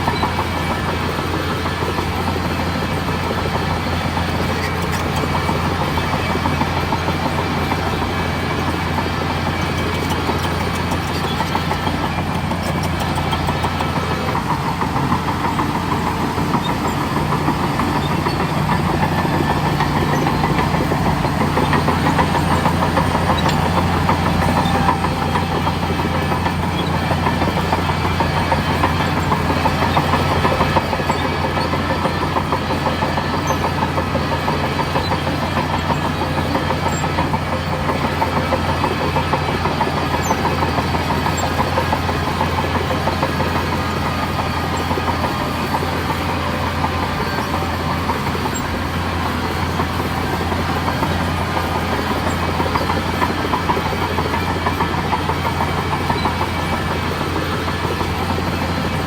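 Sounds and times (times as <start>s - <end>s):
bulldozer diesel engine running: 0.0s - 59.0s
faint clatter: 0.0s - 59.0s.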